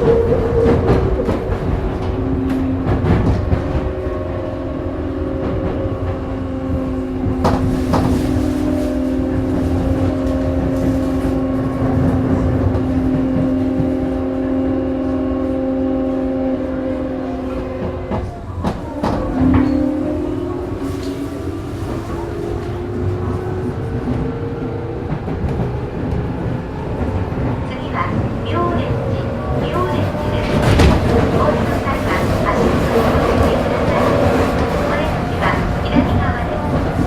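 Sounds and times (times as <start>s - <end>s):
wheel and track rumble: 0.0s - 37.0s.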